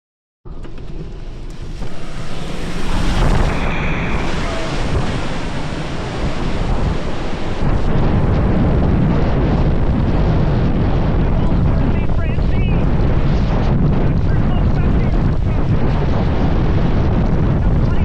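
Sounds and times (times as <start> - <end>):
hurricane wind buffeting microphone: 1.4 - 18.0.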